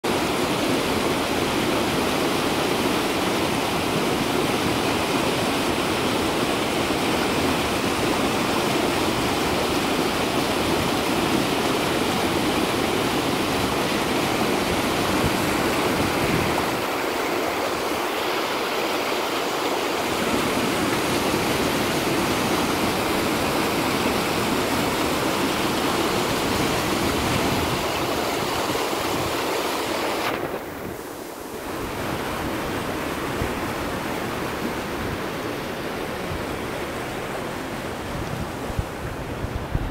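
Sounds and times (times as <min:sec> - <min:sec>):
water rushing down a channel: 0:00.0 - 0:39.9.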